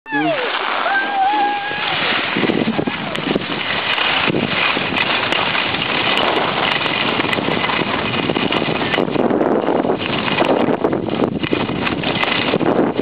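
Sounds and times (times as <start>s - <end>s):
skis scraping on snow: 0.1s - 13.0s
wind on microphone: 0.1s - 13.0s.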